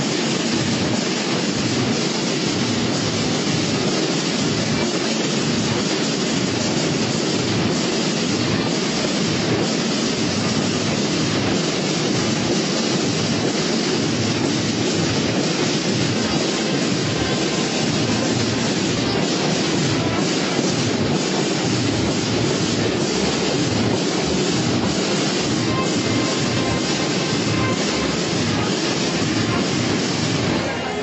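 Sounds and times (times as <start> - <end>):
loud rushing noise: 0.0 - 31.0.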